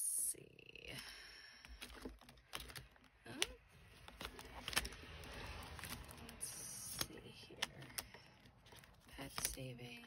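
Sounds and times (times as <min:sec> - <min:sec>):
paper rustling: 0:01.7 - 0:10.0.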